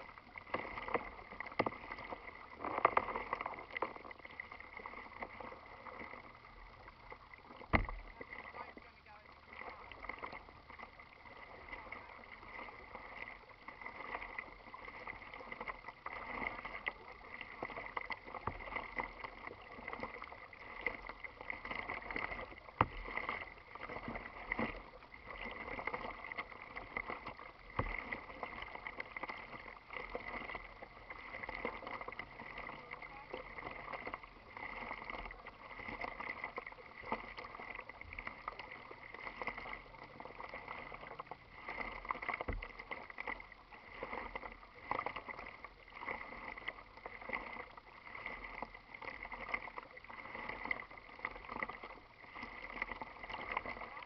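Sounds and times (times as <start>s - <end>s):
water lapping against kayak hull: 0.0s - 54.0s.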